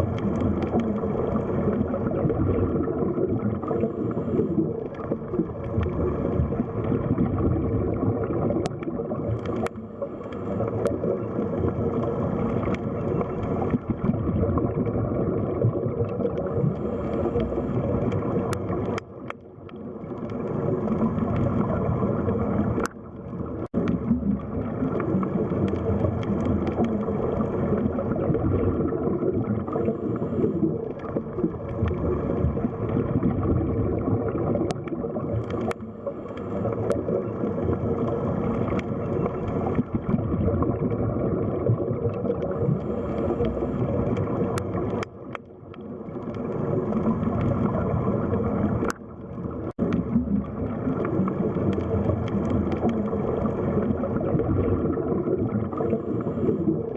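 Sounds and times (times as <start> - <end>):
faint underwater clicks: 0.0 - 56.9
underwater water rumble: 0.0 - 56.9.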